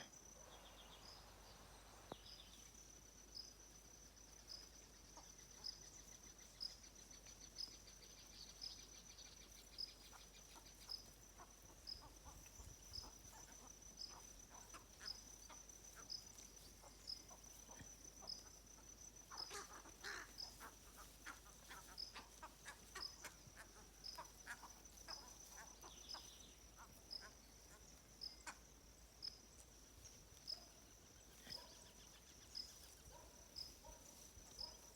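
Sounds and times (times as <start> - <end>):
insect chirp: 0.0 - 34.9
insect drone: 0.0 - 34.9.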